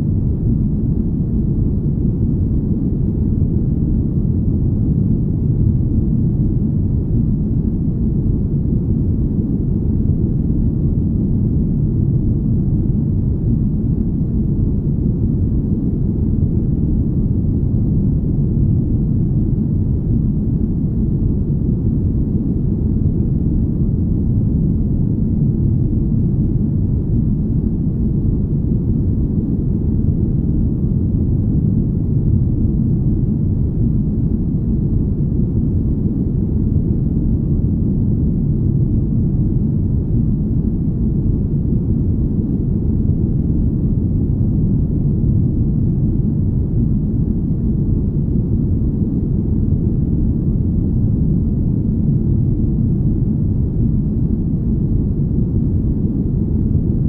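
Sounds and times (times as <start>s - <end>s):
deep smooth rumble: 0.0s - 57.0s.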